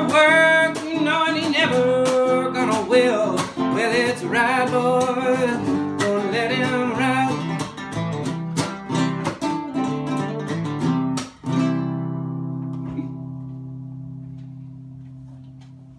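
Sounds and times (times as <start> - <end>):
fingerpicked classical guitar: 0.0 - 15.9.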